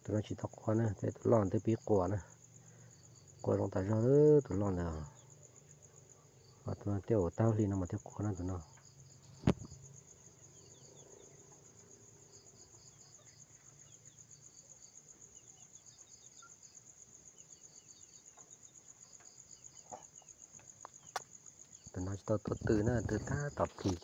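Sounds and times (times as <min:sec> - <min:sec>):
crickets trilling: 0:00.0 - 0:24.0
insect chirping in short runs: 0:00.3 - 0:24.0.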